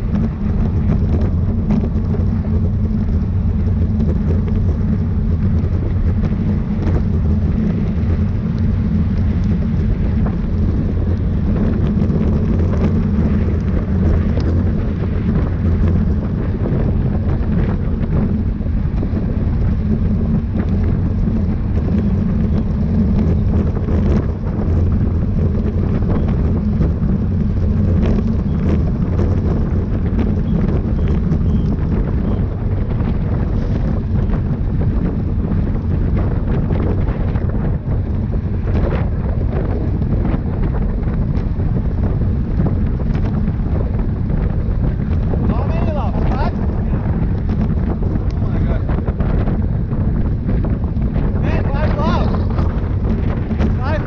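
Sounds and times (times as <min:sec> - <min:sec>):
wind rumble on microphone: 0:00.0 - 0:54.0.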